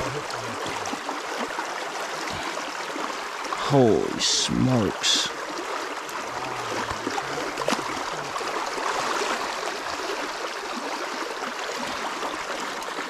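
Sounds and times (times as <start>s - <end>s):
brook flowing over rocks: 0.0s - 13.0s.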